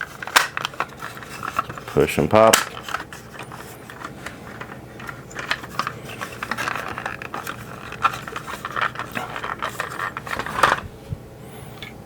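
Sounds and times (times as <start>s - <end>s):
plastic toy parts clicking: 0.0s - 10.8s.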